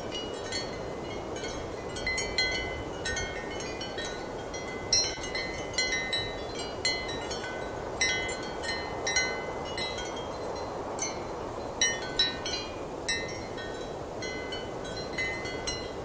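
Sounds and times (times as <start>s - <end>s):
ceramic wind chimes clinking: 0.0s - 16.0s.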